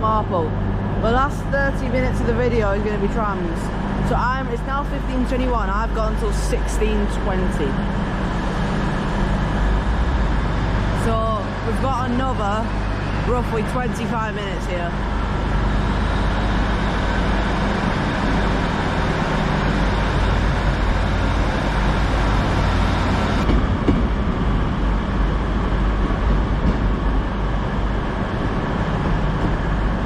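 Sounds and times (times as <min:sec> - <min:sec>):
low engine drone: 0:00.0 - 0:30.0
train rumbling: 0:00.0 - 0:30.0.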